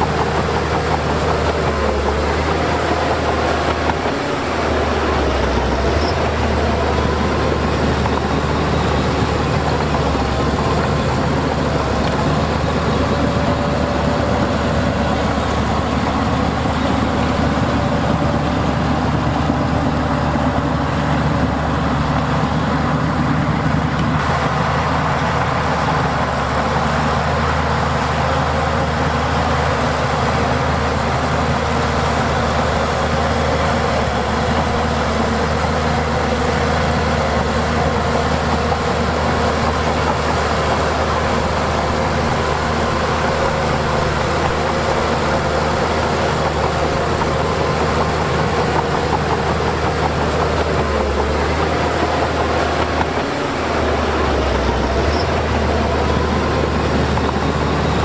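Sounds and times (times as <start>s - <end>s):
heavy diesel machinery engine drone: 0.0s - 58.0s.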